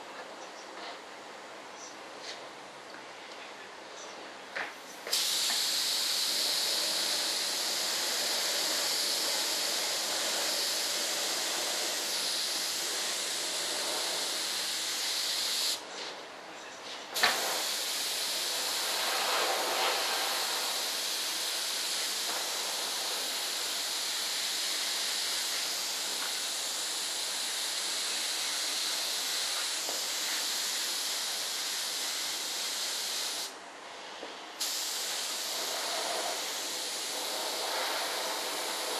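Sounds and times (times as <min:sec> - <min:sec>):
paint spray gun hissing: 0:05.0 - 0:15.9, 0:17.1 - 0:33.6, 0:34.6 - 0:38.9.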